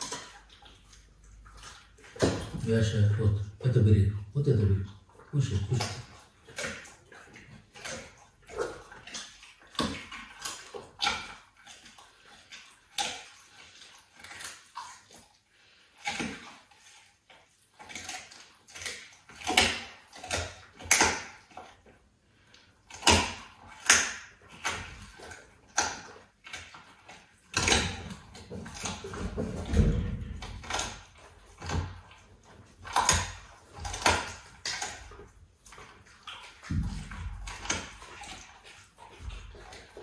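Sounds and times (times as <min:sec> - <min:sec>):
leopard chewing raw meat: 0:00.0 - 0:40.0.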